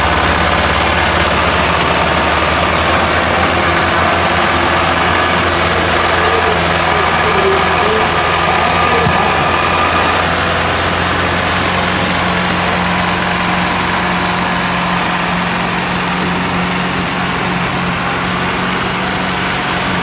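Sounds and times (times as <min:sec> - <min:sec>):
tractor diesel engine throbbing: 0:00.0 - 0:20.0.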